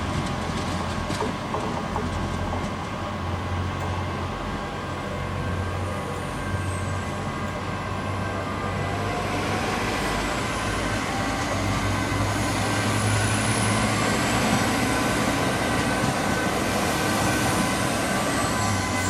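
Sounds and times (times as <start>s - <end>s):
diesel train engines humming: 0.0s - 19.0s.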